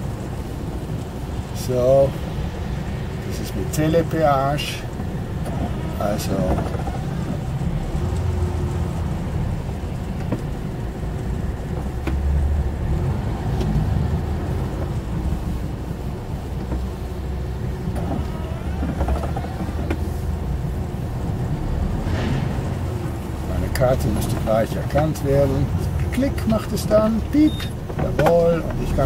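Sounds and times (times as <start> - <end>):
truck engine low rumble: 0.0 - 29.0.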